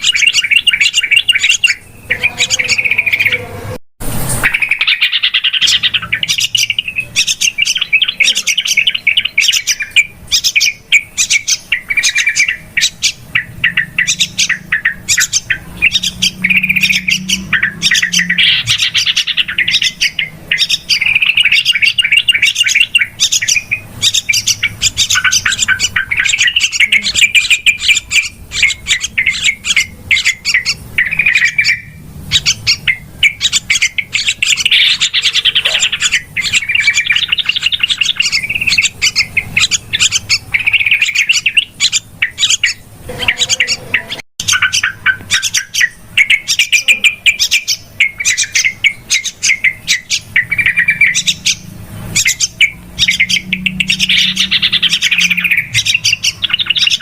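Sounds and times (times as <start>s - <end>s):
bulbul rapid chattering call: 0.0s - 3.5s, 4.3s - 57.0s.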